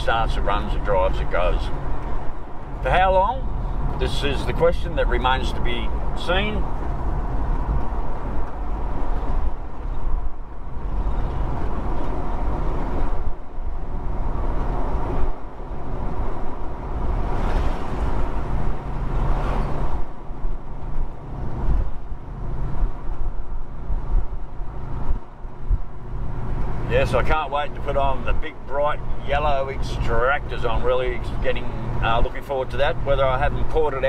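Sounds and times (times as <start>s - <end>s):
tyre and road noise: 0.0s - 34.0s.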